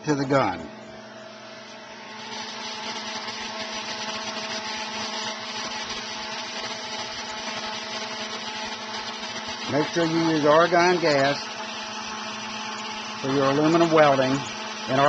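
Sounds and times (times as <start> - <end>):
welder machine hum: 0.0 - 15.0.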